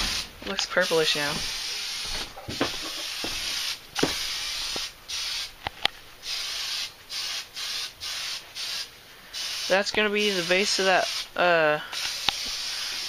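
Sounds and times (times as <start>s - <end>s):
spray paint can hissing: 0.0s - 5.5s, 6.2s - 13.0s.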